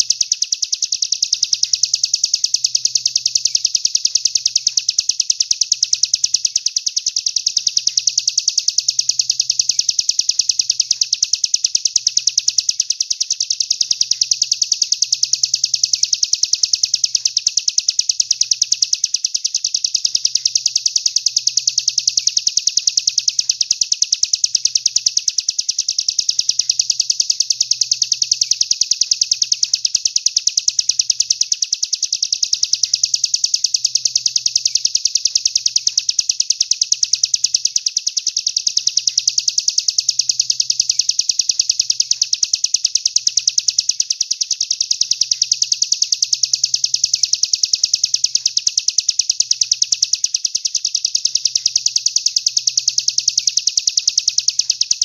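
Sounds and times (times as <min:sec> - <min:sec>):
fast high bird chirps: 0:00.0 - 0:55.0.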